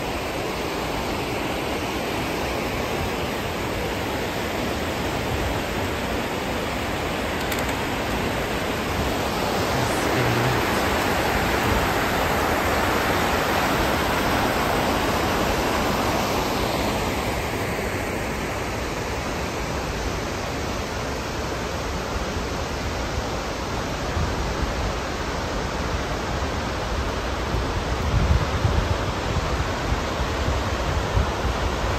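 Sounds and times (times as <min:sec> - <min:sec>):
rapids and waterfall rushing: 0:00.0 - 0:31.9.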